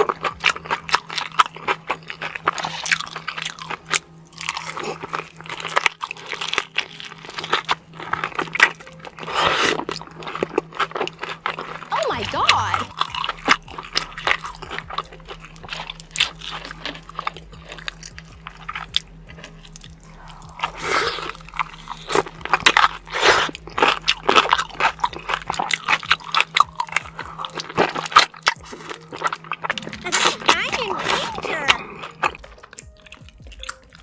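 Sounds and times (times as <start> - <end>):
crunching and chewing food: 0.0 - 34.0.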